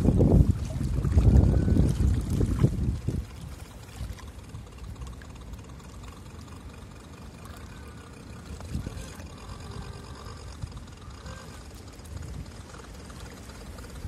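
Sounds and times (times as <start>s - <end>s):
wind rumbling on microphone: 0.0s - 5.8s, 7.4s - 14.0s
water splashing: 0.0s - 14.0s.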